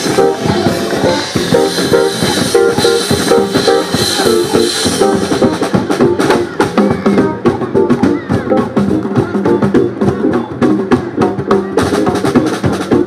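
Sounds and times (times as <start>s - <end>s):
drums and congas: 0.0s - 13.0s
keyboard and bass figures: 0.0s - 13.0s
latin jazz band playing: 0.0s - 13.0s.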